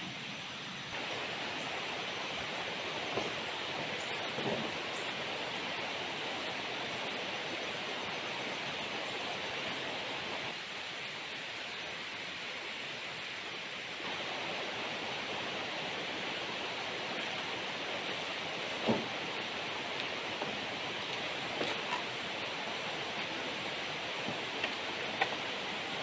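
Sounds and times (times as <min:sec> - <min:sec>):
heavy rain falling: 0:00.7 - 0:26.0.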